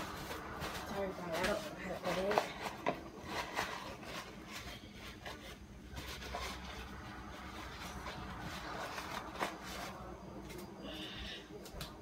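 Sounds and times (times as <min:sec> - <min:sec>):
plastic bag rustling: 0:00.0 - 0:10.7.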